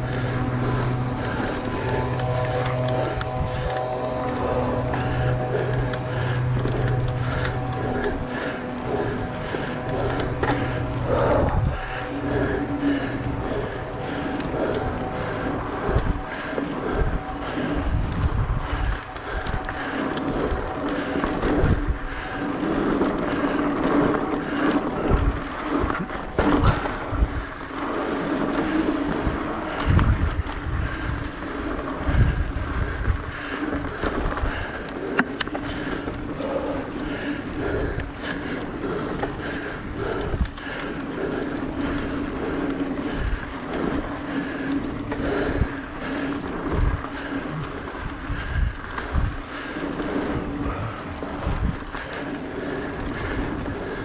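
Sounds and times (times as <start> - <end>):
bike rattling and thudding: 0.0 - 54.0
bike tyres rolling on dirt: 0.0 - 54.0
wind buffeting microphone: 0.0 - 54.0.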